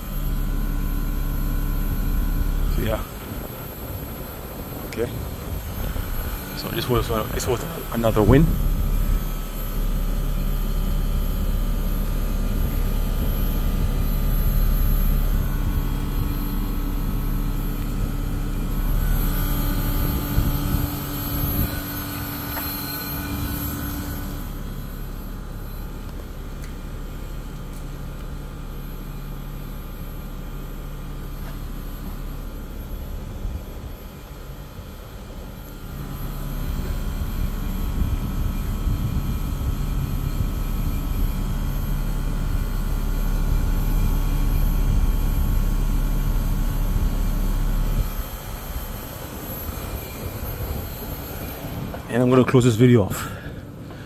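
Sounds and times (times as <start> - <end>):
condenser fans humming: 0.0 - 54.0.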